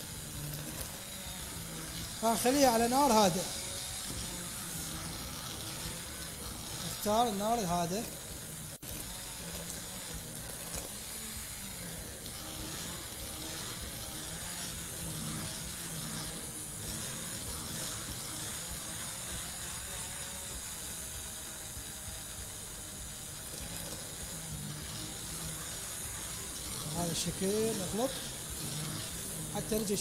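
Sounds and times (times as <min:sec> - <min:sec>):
hand blender whirring: 0:00.0 - 0:30.0.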